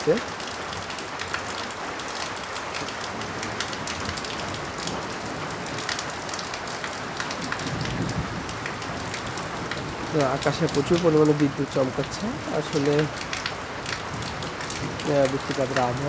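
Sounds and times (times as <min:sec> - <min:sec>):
heavy rain on a tin roof: 0:00.0 - 0:16.0
water streaming off roof: 0:00.0 - 0:16.0.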